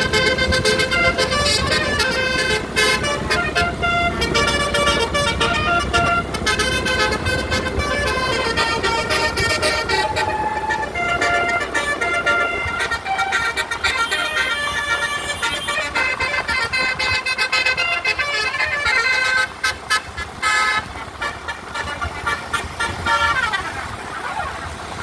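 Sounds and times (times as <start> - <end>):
bus engine running: 0.0 - 25.0
multi-tone bus horn melody: 0.0 - 25.0.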